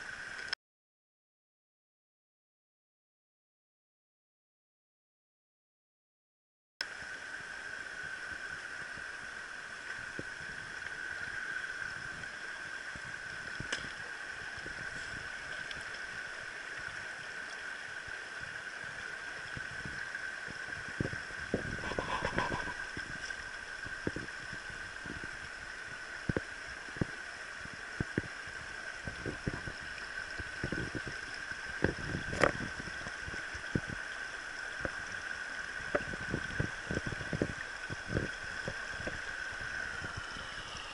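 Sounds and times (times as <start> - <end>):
stream flowing over rocks: 6.8 - 40.9.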